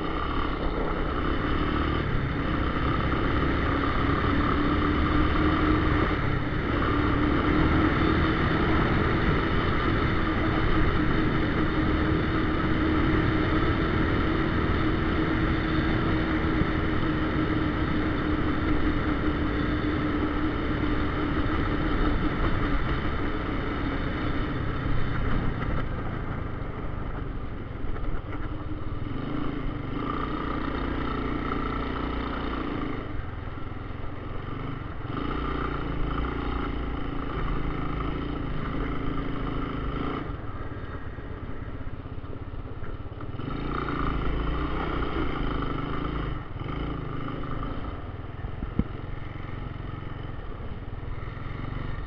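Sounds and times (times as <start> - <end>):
three-wheeler engine running: 0.0 - 52.0.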